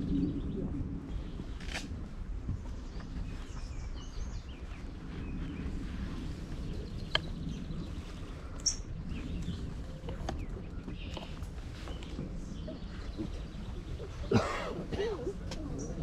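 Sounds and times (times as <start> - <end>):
low outdoor rumble: 0.0 - 16.0
songbirds chirping: 0.0 - 16.0.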